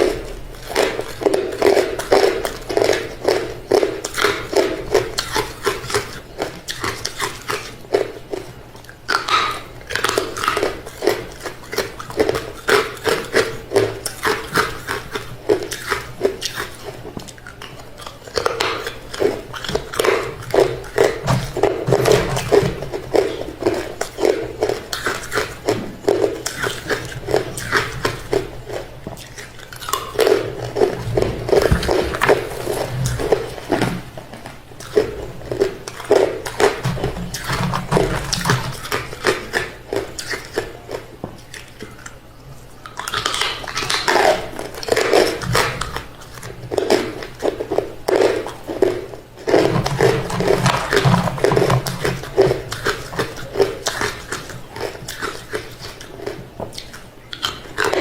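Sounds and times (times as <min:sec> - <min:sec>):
person chewing crushed ice: 0:00.0 - 0:58.0.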